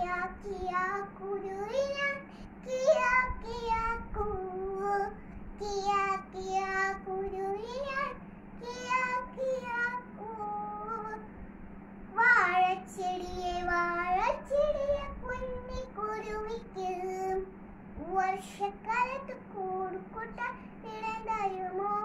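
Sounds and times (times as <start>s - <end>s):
girl singing: 0.0s - 11.4s, 12.1s - 22.0s
low hum: 0.0s - 22.0s.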